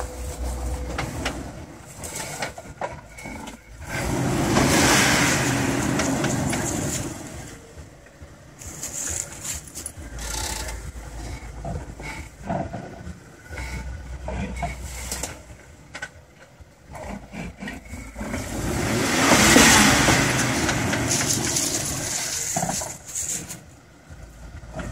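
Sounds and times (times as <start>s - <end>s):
engine running at low revs: 0.0s - 24.9s.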